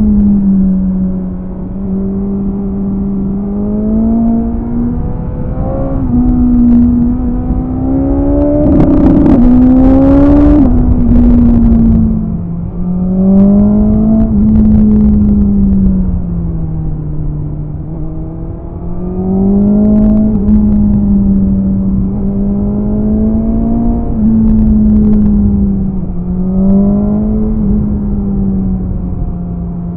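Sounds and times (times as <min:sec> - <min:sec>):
motorcycle engine revving: 0:00.0 - 0:16.2, 0:16.8 - 0:29.3.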